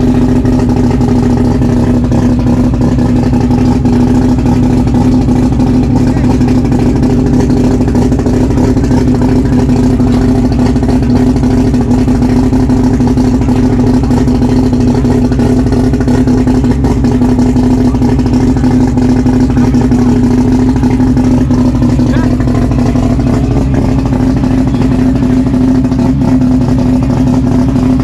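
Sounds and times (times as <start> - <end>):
car engine droning steadily: 0.0 - 28.0.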